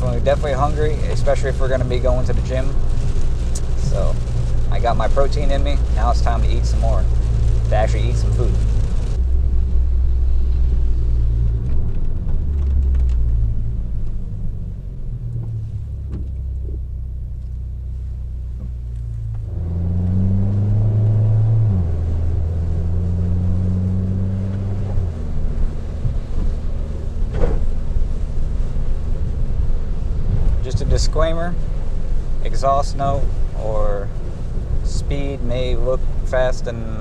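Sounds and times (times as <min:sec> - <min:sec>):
car engine accelerating from inside: 0:00.0 - 0:37.0.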